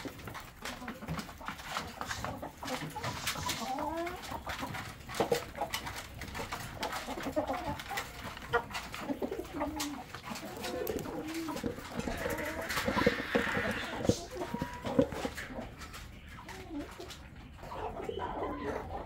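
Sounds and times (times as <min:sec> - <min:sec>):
chickens clucking softly: 0:00.0 - 0:19.0.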